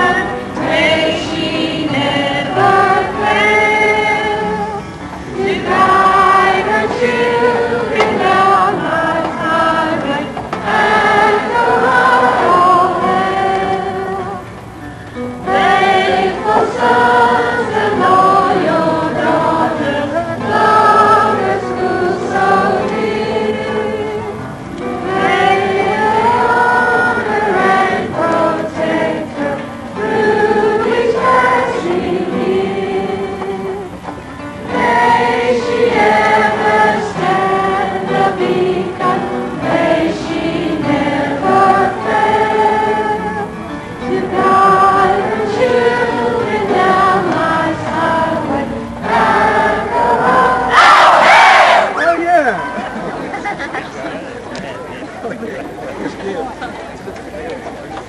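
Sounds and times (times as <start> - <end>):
crowd singing together: 0.0 - 57.7.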